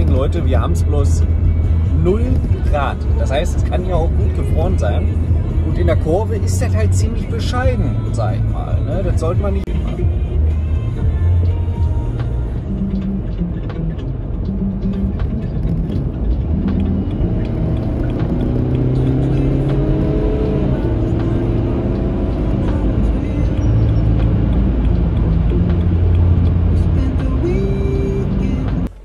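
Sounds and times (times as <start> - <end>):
background music: 0.0 - 29.0
car engine accelerating: 0.0 - 29.0
road noise: 0.0 - 29.0.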